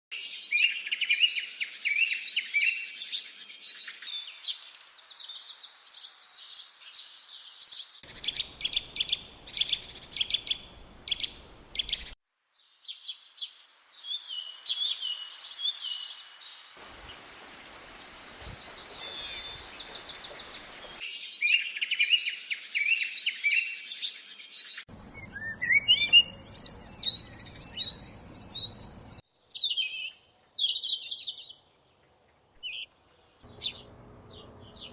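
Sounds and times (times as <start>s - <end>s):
songbirds chirping and singing: 0.2s - 12.2s, 14.1s - 34.9s.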